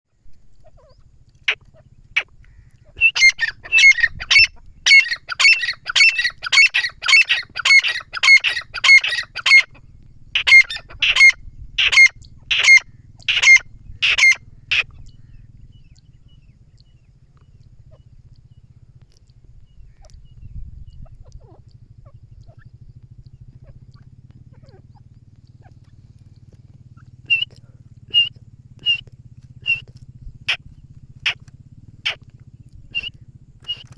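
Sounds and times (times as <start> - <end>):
francolin calling: 0.3 - 33.9.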